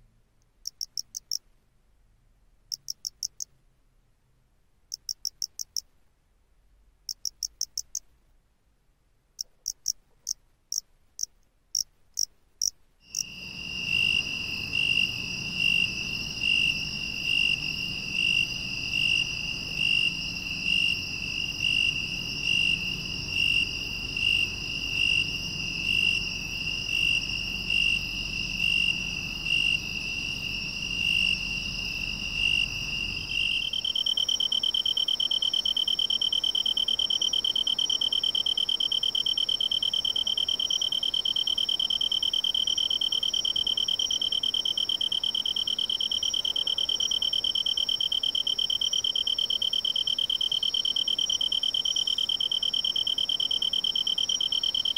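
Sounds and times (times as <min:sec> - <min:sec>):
cricket chirps: 0:00.6 - 0:01.4, 0:02.7 - 0:03.5, 0:04.9 - 0:05.9, 0:07.1 - 0:08.1, 0:09.4 - 0:54.9
higher steady cricket trill: 0:00.6 - 0:01.4, 0:02.7 - 0:03.5, 0:04.9 - 0:05.9, 0:07.1 - 0:08.1, 0:09.4 - 0:54.9
tree cricket trilling: 0:00.6 - 0:01.4, 0:02.7 - 0:03.5, 0:04.9 - 0:05.9, 0:07.1 - 0:08.1, 0:09.4 - 0:54.9.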